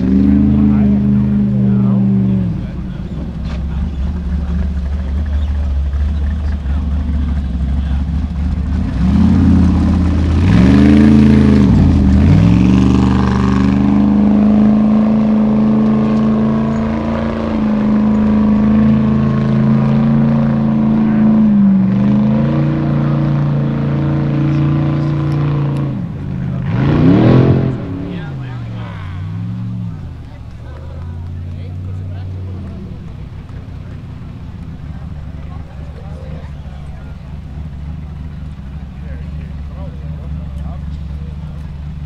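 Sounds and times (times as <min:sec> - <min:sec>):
buggy engine revving hard: 0:00.0 - 0:42.0.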